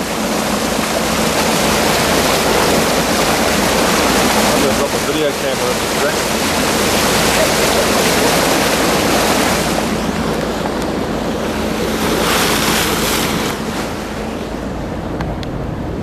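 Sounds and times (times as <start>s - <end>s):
low engine hum: 0.0s - 16.0s
water rushing along hull: 0.0s - 16.0s
wind buffeting microphone: 0.0s - 16.0s.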